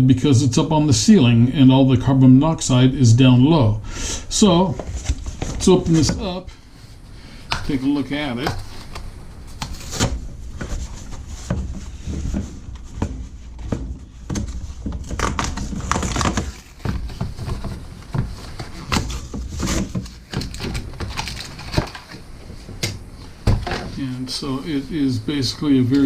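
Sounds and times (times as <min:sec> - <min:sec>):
packaging rustling and scraping: 0:04.3 - 0:26.0.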